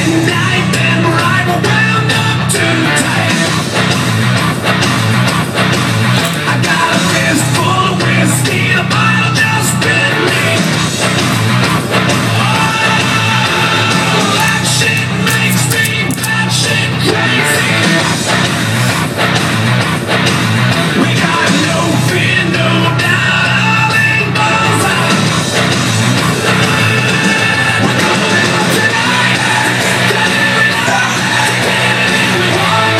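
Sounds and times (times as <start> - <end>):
rock song with distorted guitar: 0.0 - 32.9.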